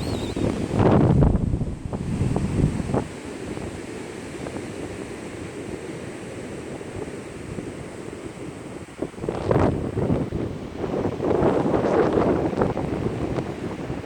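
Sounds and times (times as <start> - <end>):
wind buffeting microphone: 0.0 - 5.1, 7.6 - 14.0.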